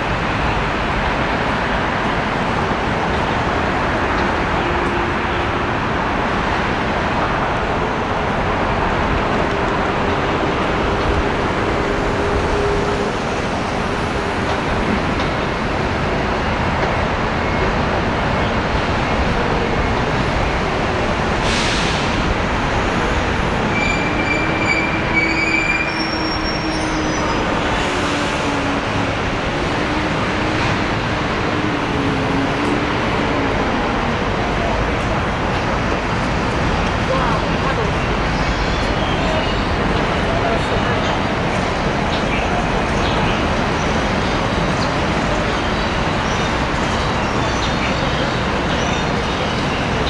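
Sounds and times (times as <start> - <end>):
city traffic roar: 0.0 - 50.0.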